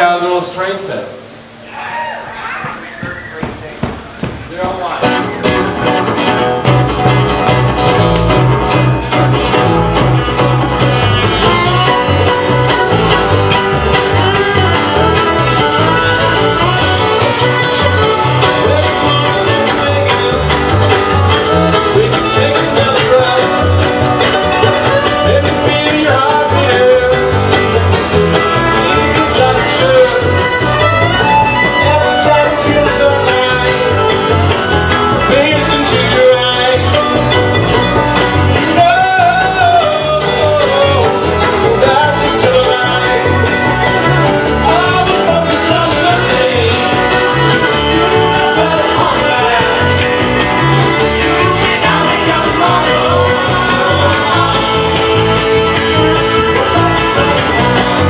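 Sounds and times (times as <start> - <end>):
bluegrass band playing: 0.0 - 58.0
banjo picking: 4.2 - 58.0.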